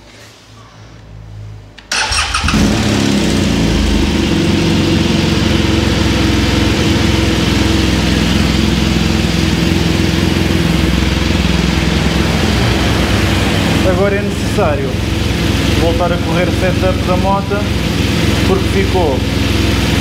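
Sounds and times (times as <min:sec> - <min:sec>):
motorcycle engine starting and idling: 0:01.8 - 0:20.0.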